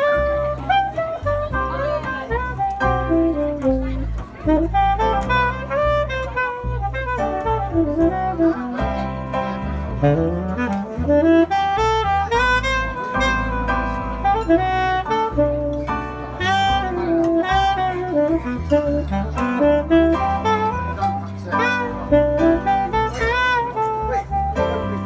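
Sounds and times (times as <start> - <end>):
digital piano: 0.0 - 25.0
saxophone melody: 0.0 - 25.0
upright double bass: 0.0 - 25.0.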